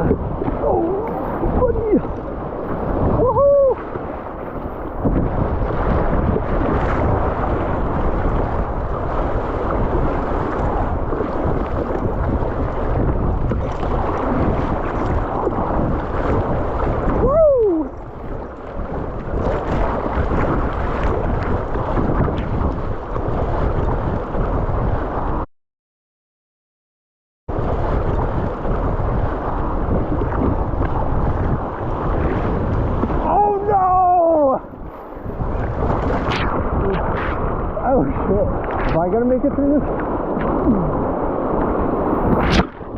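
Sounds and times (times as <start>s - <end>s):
wind rumbling on microphone: 0.0s - 25.5s, 27.5s - 42.9s.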